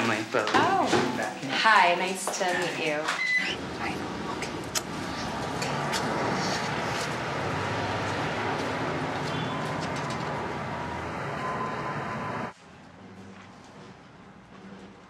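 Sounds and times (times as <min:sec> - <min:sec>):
city street traffic: 0:01.6 - 0:15.0.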